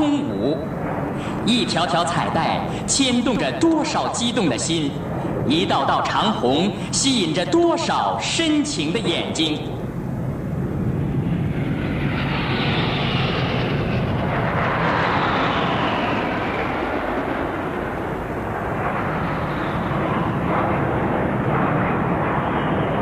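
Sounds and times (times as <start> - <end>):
jet aircraft flying over: 0.0 - 23.0.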